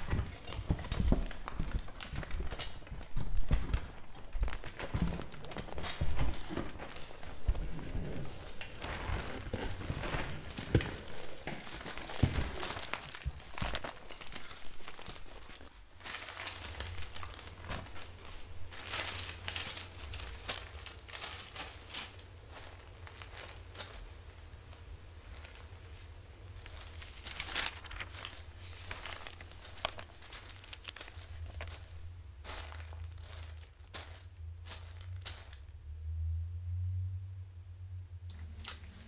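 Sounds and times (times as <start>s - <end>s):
newspaper rustling and crinkling: 0.0s - 35.7s.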